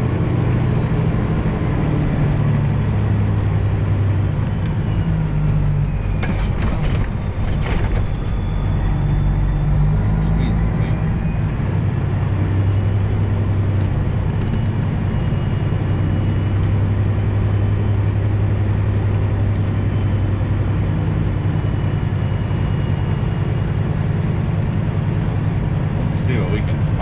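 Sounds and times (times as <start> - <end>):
truck engine low drone: 0.0 - 27.0.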